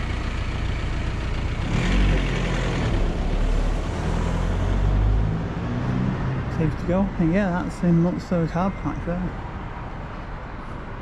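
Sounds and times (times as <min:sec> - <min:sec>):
heavy vehicle engine rumbling: 0:00.0 - 0:11.0
road noise: 0:00.0 - 0:11.0.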